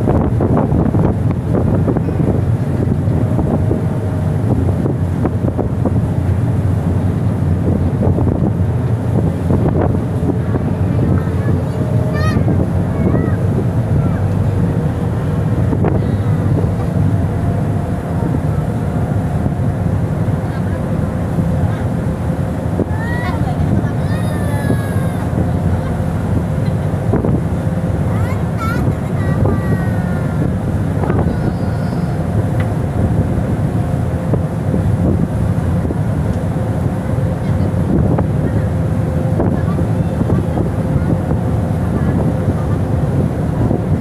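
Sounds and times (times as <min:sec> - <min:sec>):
rough sea rushing: 0:00.0 - 0:44.0
ship engine drone: 0:00.0 - 0:44.0
wake churning: 0:00.0 - 0:44.0
wind buffeting microphone: 0:00.0 - 0:44.0.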